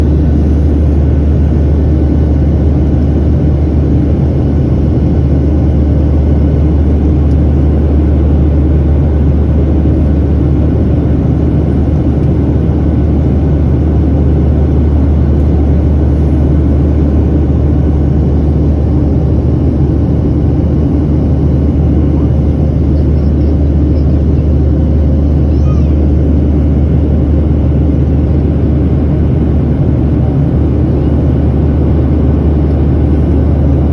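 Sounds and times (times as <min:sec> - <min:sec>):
airplane engines droning: 0:00.0 - 0:33.9.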